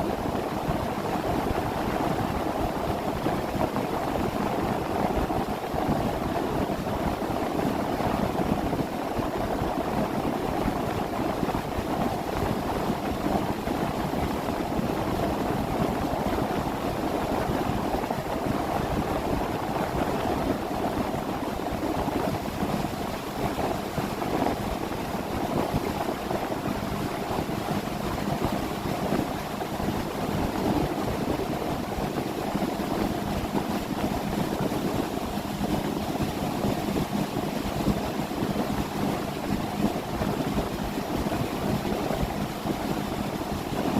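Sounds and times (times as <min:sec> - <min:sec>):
water rushing along hull: 0:00.0 - 0:43.9.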